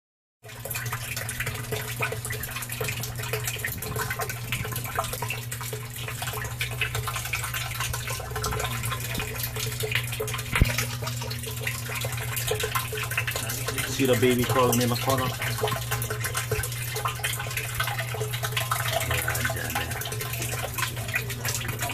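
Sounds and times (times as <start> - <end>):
water from hose splashing into tub: 0.4 - 21.9
steady low hum: 1.1 - 21.9.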